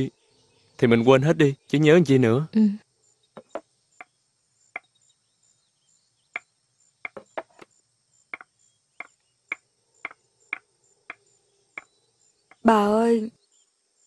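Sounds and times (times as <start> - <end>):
faint cricket chirping: 0.0 - 14.0.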